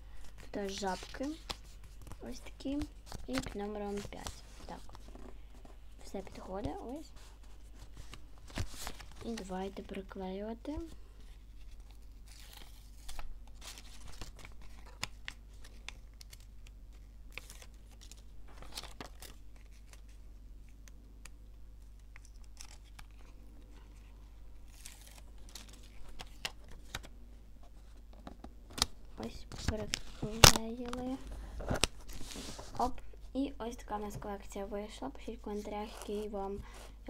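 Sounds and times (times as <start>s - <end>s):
paper rustling and crinkling: 0.1s - 10.0s, 10.7s - 20.9s, 21.8s - 33.0s.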